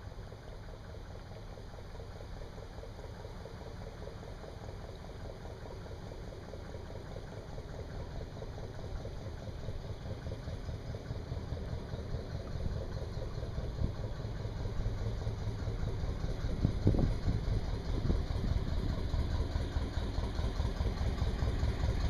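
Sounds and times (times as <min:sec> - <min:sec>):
boat engine pulsing: 0:00.0 - 0:22.0.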